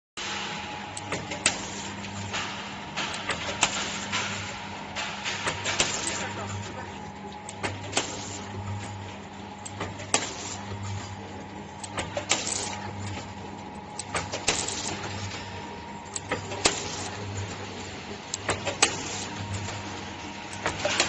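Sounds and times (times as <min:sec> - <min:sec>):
machine clacking: 0:00.2 - 0:21.0
packing machine hum: 0:00.2 - 0:21.0.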